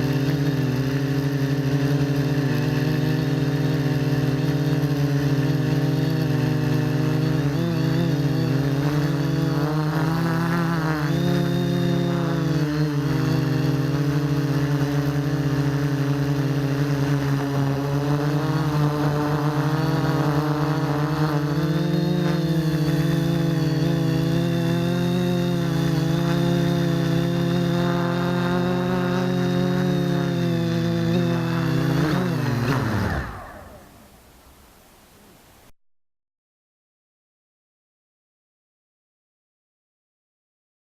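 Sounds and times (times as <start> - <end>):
quadcopter motors buzzing: 0.0 - 34.5.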